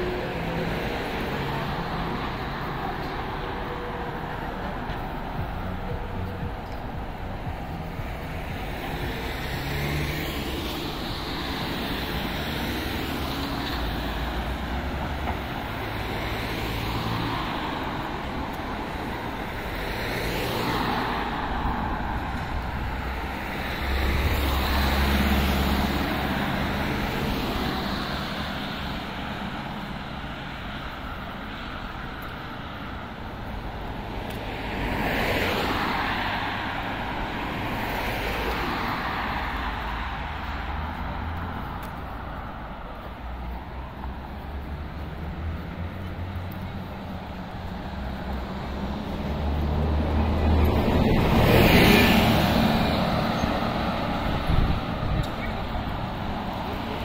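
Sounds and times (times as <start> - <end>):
road traffic noise: 0.0 - 57.0
vehicles passing: 0.0 - 57.0.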